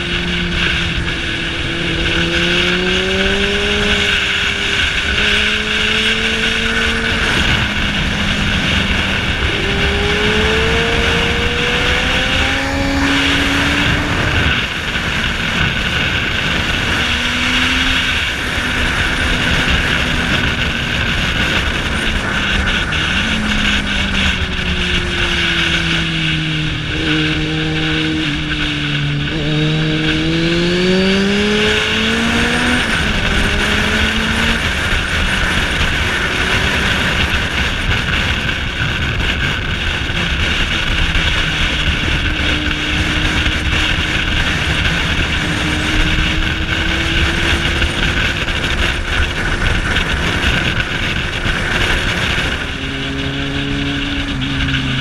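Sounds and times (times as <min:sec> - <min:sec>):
motorcycle engine: 0:00.0 - 0:55.0
wind rush: 0:00.0 - 0:55.0.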